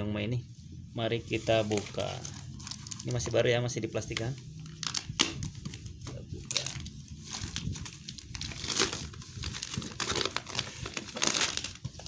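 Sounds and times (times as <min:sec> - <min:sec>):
plastic wrap crinkling: 0:01.3 - 0:12.0.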